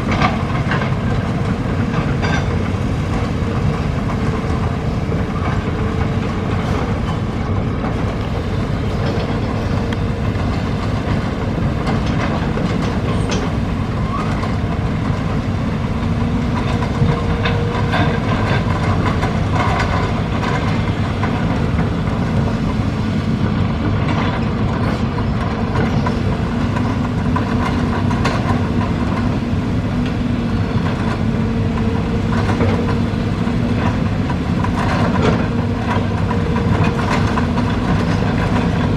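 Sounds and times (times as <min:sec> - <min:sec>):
heavy diesel engine: 0:00.0 - 0:38.9.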